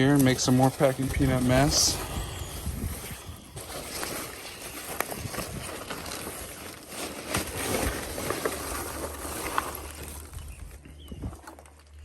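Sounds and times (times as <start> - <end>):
packing peanuts rustling: 0.0 - 12.0.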